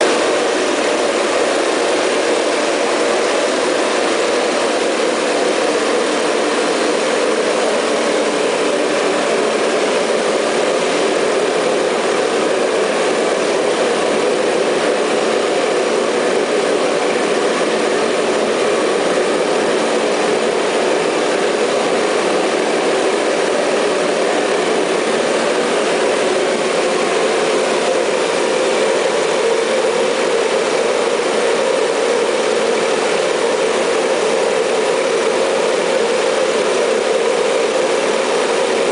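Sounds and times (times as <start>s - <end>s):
oil burners roaring: 0.0s - 38.9s.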